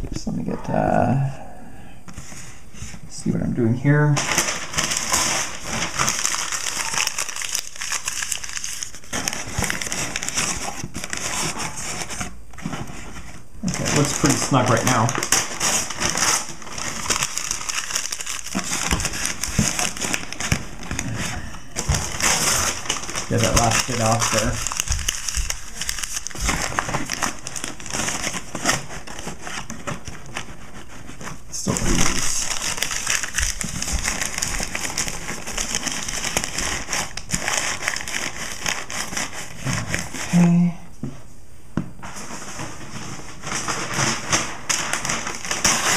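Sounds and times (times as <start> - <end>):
newspaper crumpling and crackling: 4.2 - 40.5, 42.2 - 45.9.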